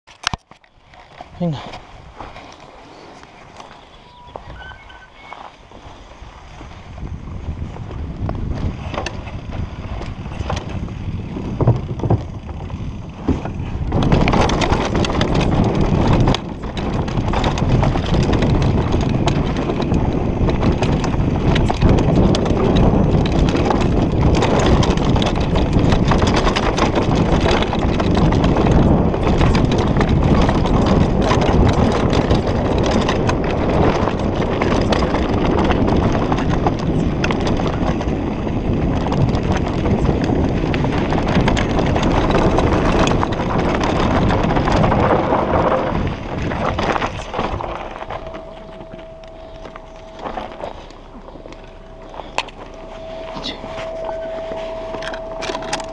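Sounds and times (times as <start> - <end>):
bike rattling over rough ground: 0.1 - 55.9
wind rushing over microphone: 0.8 - 55.9.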